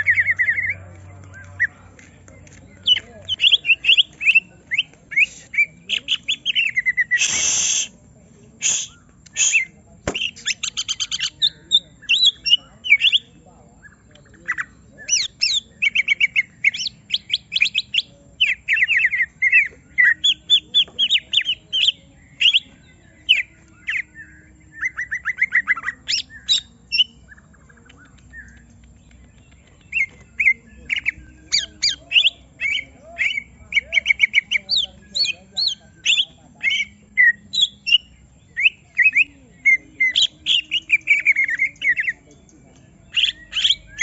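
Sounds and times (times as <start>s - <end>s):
bird sharp chirps and trills: 0.0s - 8.0s, 8.6s - 44.0s.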